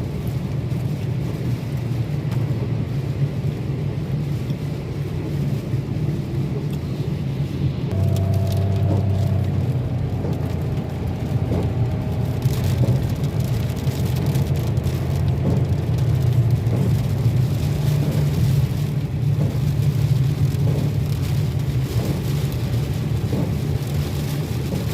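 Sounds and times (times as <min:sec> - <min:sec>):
car engine and tyres rumbling: 0:00.0 - 0:24.9.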